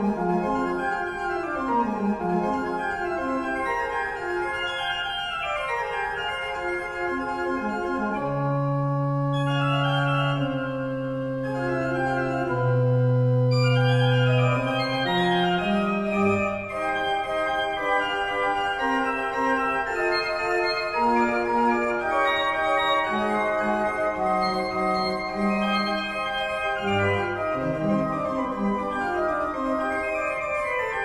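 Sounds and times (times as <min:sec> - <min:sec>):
organ playing: 0:00.0 - 0:31.0.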